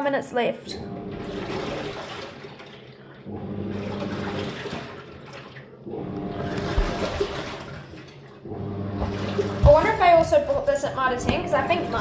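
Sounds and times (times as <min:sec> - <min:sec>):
washing machine agitating: 0:00.0 - 0:12.0.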